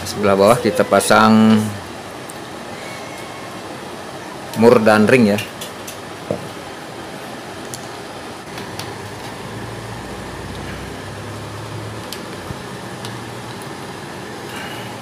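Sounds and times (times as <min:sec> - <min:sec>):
fan running: 0:00.0 - 0:15.0.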